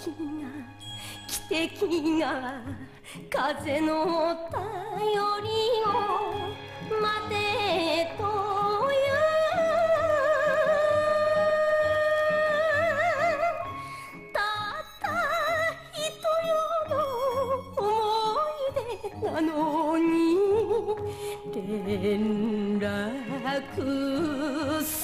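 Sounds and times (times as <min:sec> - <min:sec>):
quiet instrumental backing: 0:00.0 - 0:25.0
woman singing with heavy vibrato: 0:00.0 - 0:25.0.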